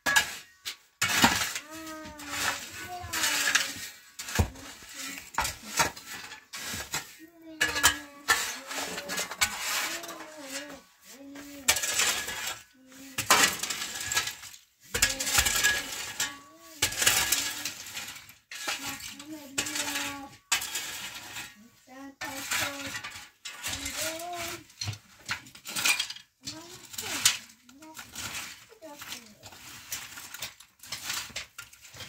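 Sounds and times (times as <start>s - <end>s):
metal clinking on stones: 0.0s - 10.8s, 11.6s - 21.6s, 22.4s - 32.0s
shovel scraping dirt floor: 0.0s - 32.0s.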